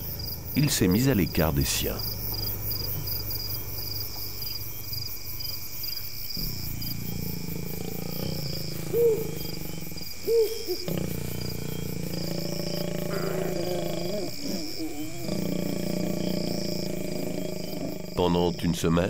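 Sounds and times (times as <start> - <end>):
lion hoot-like calls: 0.0 - 5.0, 6.4 - 18.8
crickets chirping: 0.0 - 19.0
lions growling: 0.0 - 19.0.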